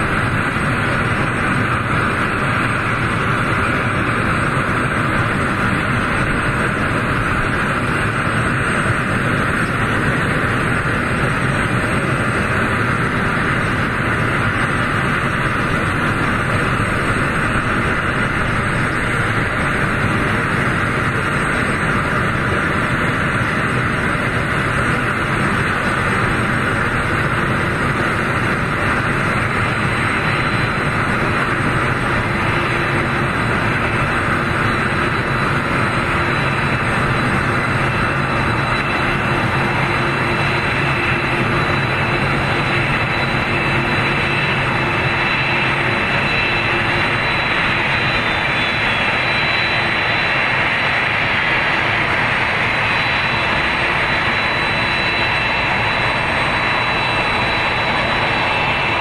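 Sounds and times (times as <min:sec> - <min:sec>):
jet airliner taxiing: 0:00.0 - 0:59.0.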